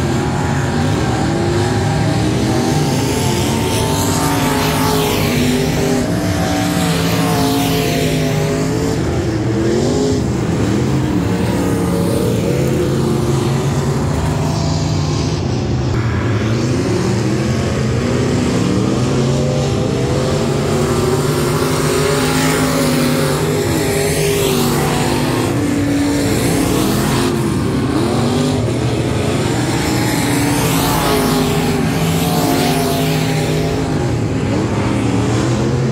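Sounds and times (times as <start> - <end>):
race car engines revving: 0.0 - 35.9.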